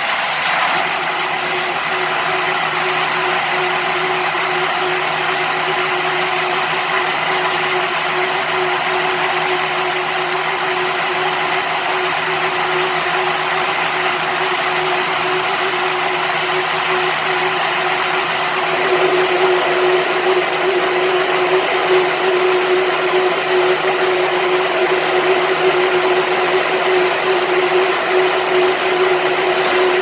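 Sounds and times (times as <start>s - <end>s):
baler machine running: 0.0s - 30.0s.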